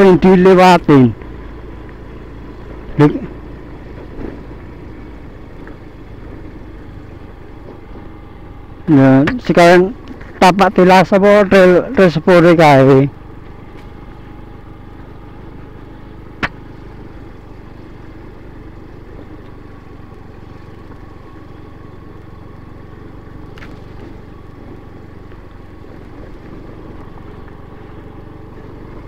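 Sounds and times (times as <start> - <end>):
motor scooter engine running: 0.0 - 29.0.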